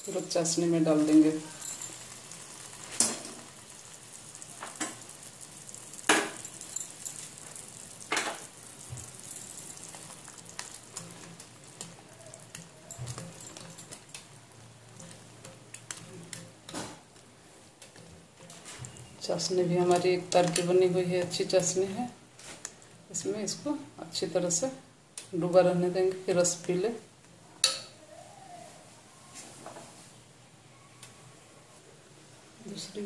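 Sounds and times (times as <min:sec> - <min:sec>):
frying in hot oil: 0:00.0 - 0:28.4.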